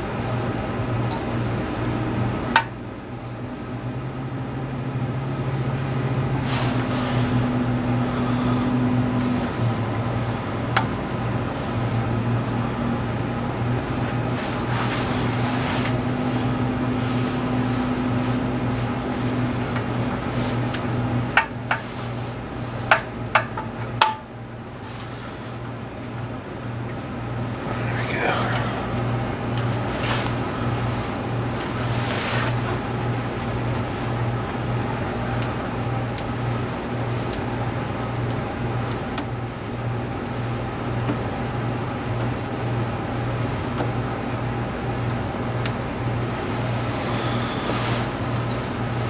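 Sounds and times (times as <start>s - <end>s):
low mechanical hum: 0.0s - 49.0s.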